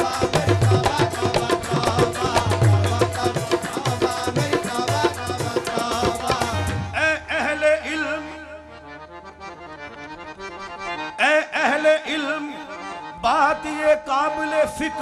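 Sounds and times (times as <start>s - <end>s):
harmonium melody: 0.0s - 15.0s
tabla: 0.0s - 15.0s.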